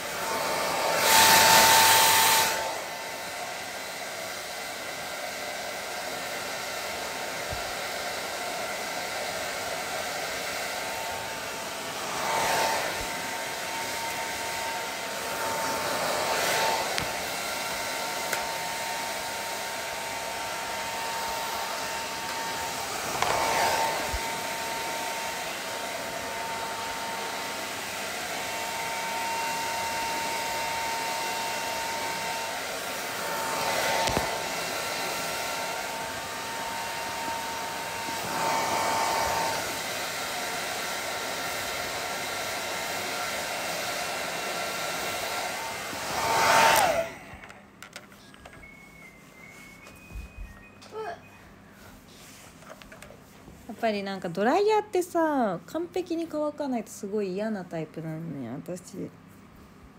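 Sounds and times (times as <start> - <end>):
hair dryer blowing: 0.0 - 52.8.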